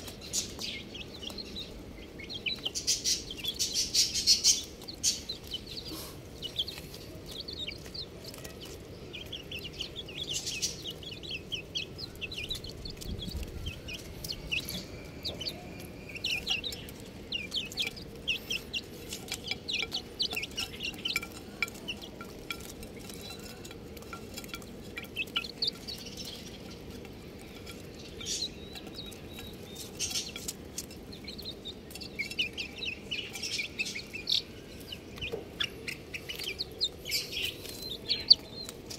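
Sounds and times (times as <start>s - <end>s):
chicks peeping: 0.0s - 38.9s
low background noise: 0.0s - 38.9s.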